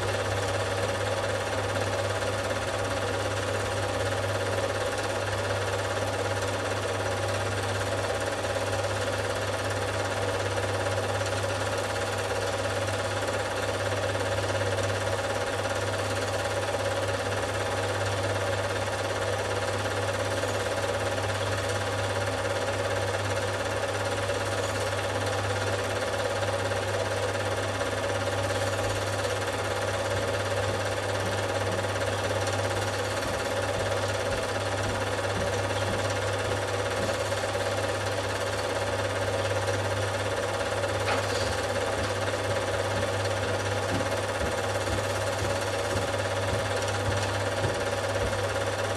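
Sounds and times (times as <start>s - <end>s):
film projector whirring: 0.0s - 48.9s.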